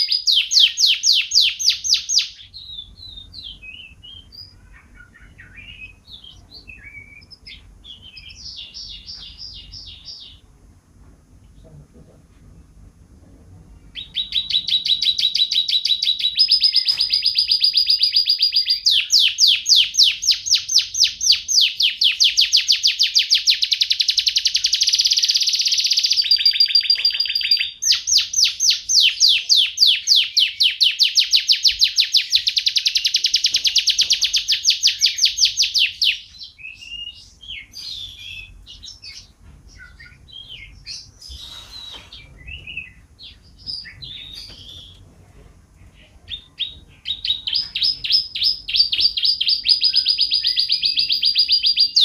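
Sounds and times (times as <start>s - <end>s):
soft bird chirps: 0.0s - 10.5s, 13.7s - 45.0s
canary singing trills: 0.0s - 10.6s, 13.8s - 45.0s, 45.8s - 52.0s.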